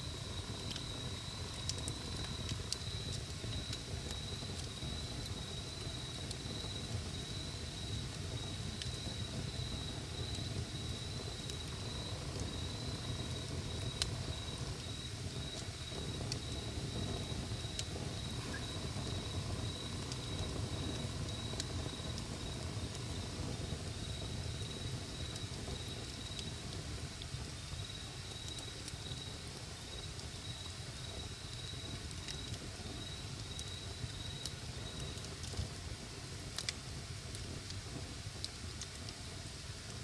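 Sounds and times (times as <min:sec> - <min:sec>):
insect chirping: 0:00.0 - 0:26.6, 0:27.8 - 0:35.1
campfire crackling and popping: 0:00.0 - 0:40.0.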